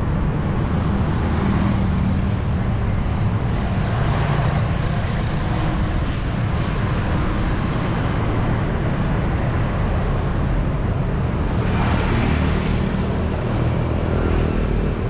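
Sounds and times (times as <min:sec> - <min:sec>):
rumble of passing motor vehicles: 0:00.0 - 0:15.0.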